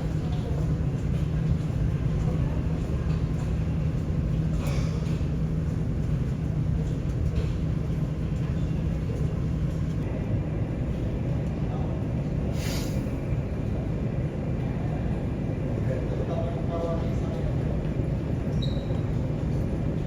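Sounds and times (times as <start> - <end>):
terminal background rumble: 0.0 - 20.0.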